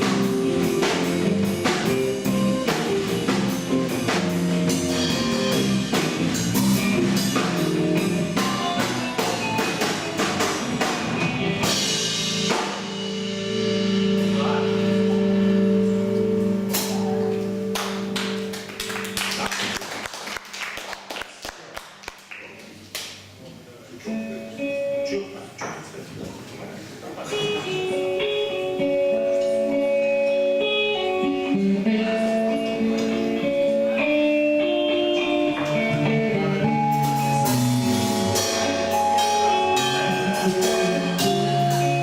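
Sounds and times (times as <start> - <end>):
band playing: 0.0 - 20.6, 27.2 - 42.0.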